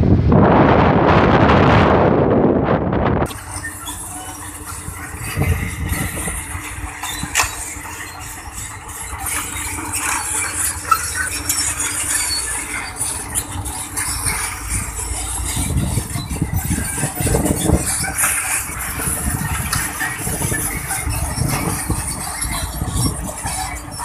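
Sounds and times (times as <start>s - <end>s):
engine running: 0.0s - 24.0s
metallic track clatter: 3.2s - 24.0s.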